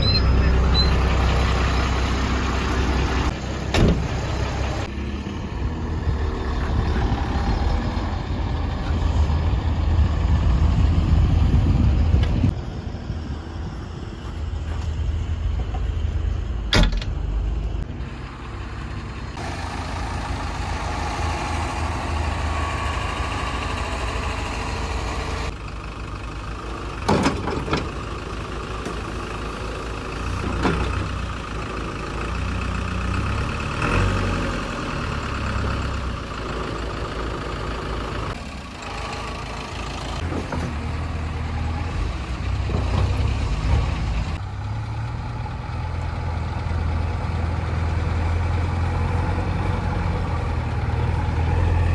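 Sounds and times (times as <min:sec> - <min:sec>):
heavy diesel engines idling: 0:00.0 - 0:51.9.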